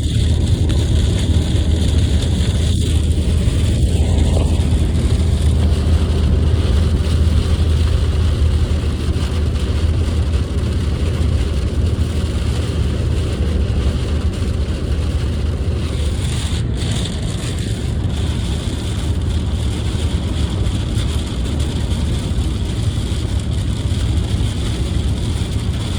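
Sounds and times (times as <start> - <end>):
car engine and road noise: 0.0 - 25.9
light rain on car: 0.0 - 25.9
tyres hissing on wet tarmac: 0.0 - 25.9.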